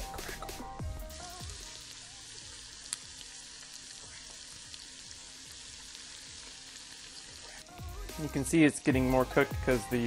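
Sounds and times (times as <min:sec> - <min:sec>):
fish sizzling in a frying pan: 0:00.0 - 0:10.0.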